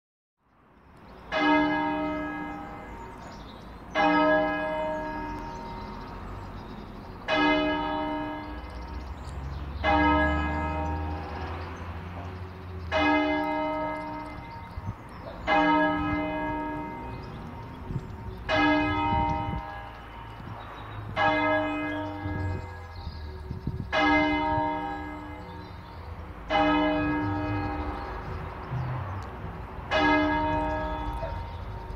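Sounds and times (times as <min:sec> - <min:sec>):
church bell tolling: 0:01.3 - 0:06.1, 0:07.2 - 0:09.0, 0:09.8 - 0:28.4, 0:29.9 - 0:31.9.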